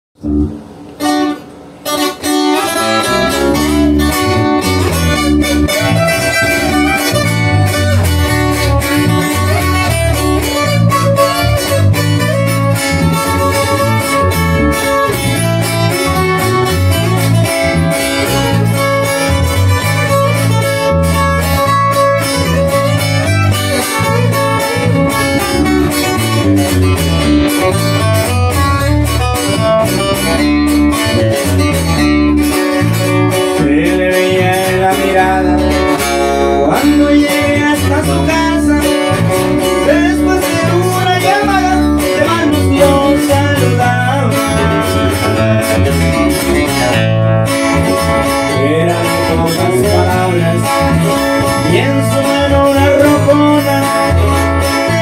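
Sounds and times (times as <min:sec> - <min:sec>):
acoustic guitar playing: 0:00.2 - 0:55.0
rhythmic bass line: 0:00.2 - 0:55.0.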